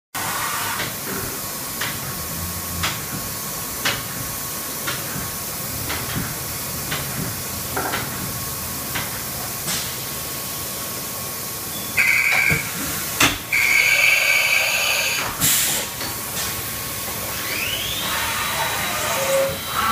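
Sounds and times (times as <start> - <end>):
milling machine hiss: 0.2 - 19.9.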